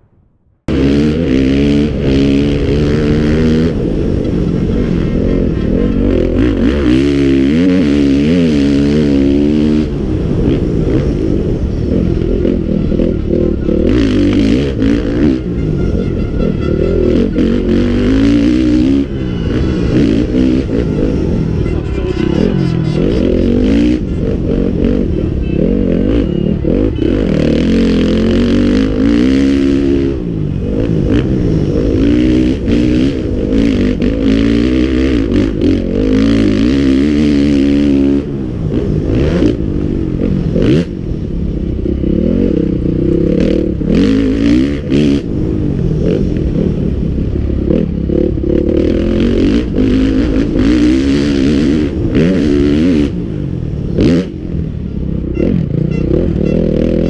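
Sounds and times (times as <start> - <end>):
motorbike engine revving: 0.7 - 57.0.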